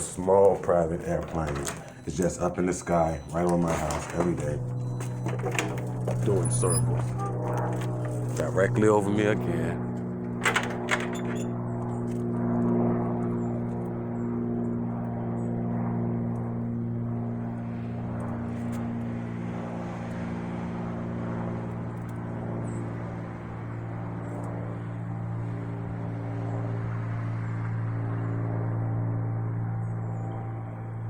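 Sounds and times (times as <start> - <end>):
small airplane engine droning: 0.0 - 31.0.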